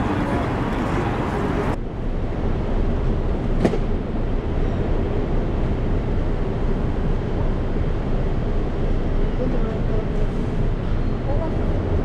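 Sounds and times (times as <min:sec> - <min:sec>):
low city street rumble: 0:00.0 - 0:12.0.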